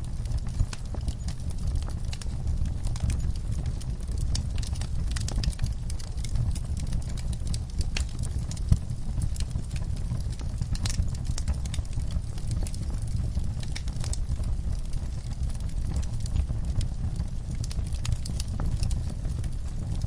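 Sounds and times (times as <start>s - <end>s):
fireplace crackling: 0.0s - 20.0s
low rumble of fire: 0.0s - 20.0s.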